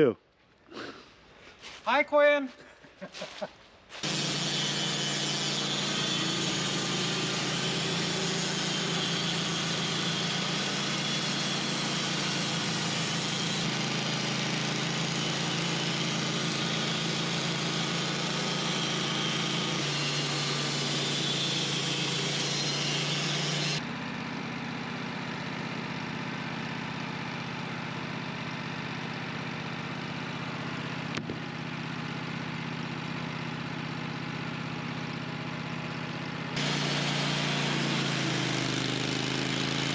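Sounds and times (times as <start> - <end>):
sawmill engine drone: 4.0 - 39.9.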